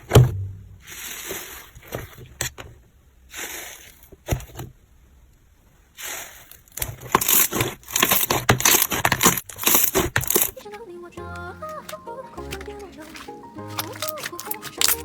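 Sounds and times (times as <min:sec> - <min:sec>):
slime squelching: 0:00.0 - 0:02.6, 0:03.3 - 0:04.6, 0:05.9 - 0:10.7, 0:11.4 - 0:15.0.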